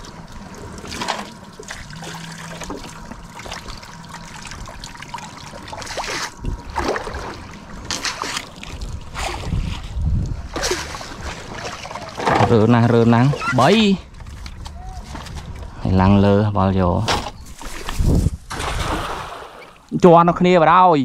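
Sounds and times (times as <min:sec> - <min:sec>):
water sloshing: 0:00.0 - 0:15.7, 0:17.5 - 0:20.0
water splashing and trickling: 0:00.0 - 0:15.8, 0:17.5 - 0:20.2.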